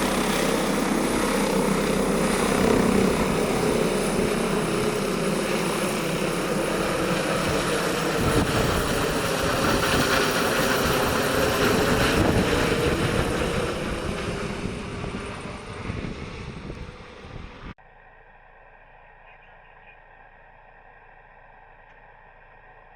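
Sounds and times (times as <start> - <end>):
helicopter rotor and turbine: 0.0 - 22.9.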